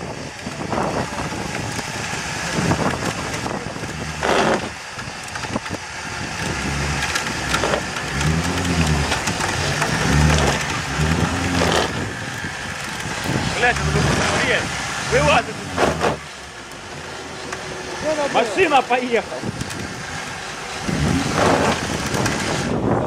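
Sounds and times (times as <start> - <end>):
car engine revving under strain: 0.0 - 23.0.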